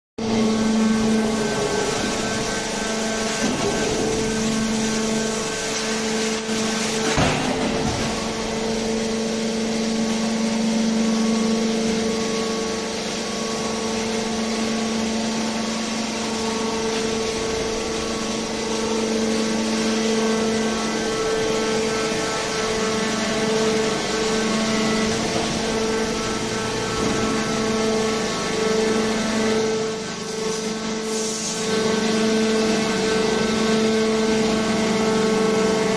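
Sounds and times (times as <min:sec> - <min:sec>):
hydraulic power unit humming: 0:00.2 - 0:35.9.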